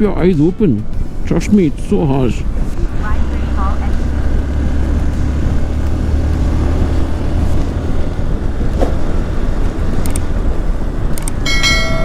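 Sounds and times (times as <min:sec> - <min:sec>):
motorcycle engine running: 0:00.0 - 0:12.0
wind buffeting microphone: 0:00.4 - 0:12.0.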